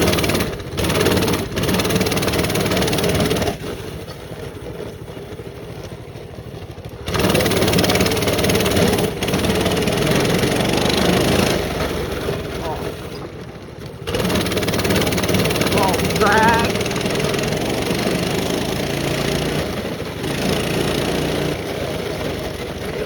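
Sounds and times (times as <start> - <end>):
small off-road engine revving: 0.0 - 23.0.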